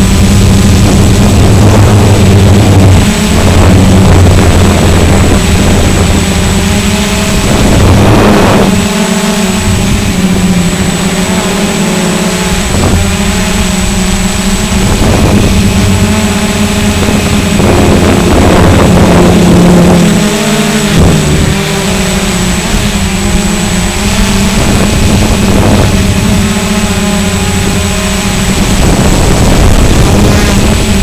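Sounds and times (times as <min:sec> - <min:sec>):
quadcopter propellers buzzing: 0:00.0 - 0:31.0
wind noise gusts: 0:00.0 - 0:31.0.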